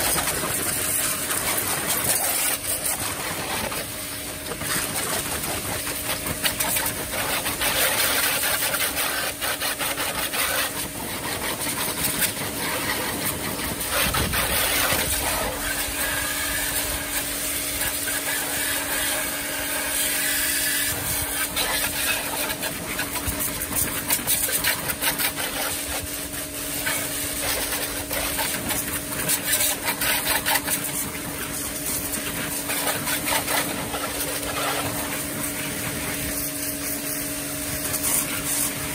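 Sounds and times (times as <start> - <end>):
pressure washer pump hum: 0.0 - 38.9
water jet spraying hiss: 0.0 - 38.9.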